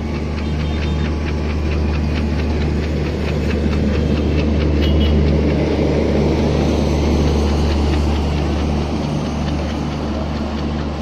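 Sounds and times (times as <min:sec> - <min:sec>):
metallic clicks of wheels on track: 0:00.0 - 0:11.0
train coaches rumbling: 0:00.0 - 0:11.0.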